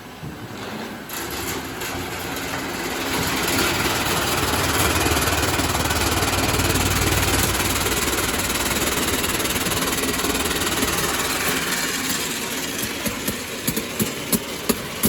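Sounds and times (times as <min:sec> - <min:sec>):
sorting machine rumble and hiss: 0:00.0 - 0:15.0.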